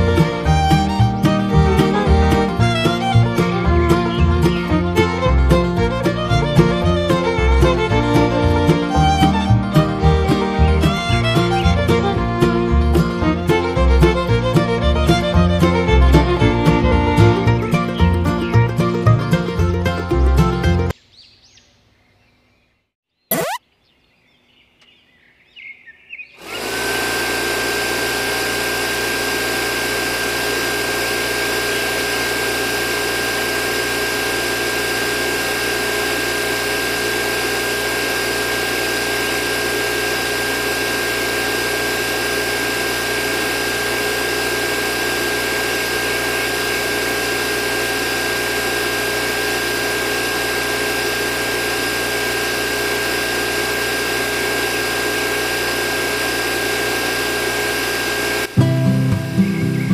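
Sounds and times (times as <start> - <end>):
small motor whining: 0.0 - 20.8, 23.3 - 23.6, 26.4 - 58.6.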